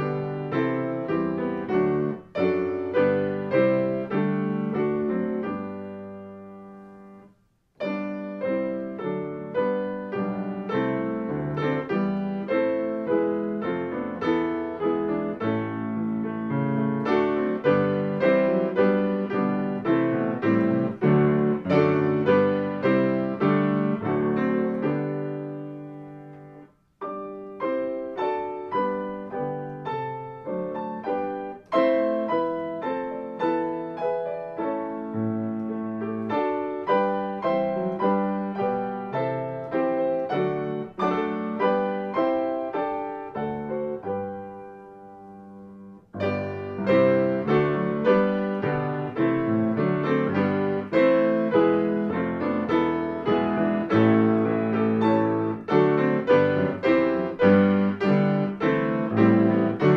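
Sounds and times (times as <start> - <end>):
piano playing hymn chords: 0.0 - 59.9.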